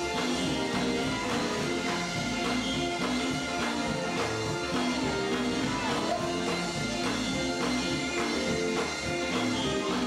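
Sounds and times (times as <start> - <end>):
electric guitars over a beat: 0.0 - 10.0.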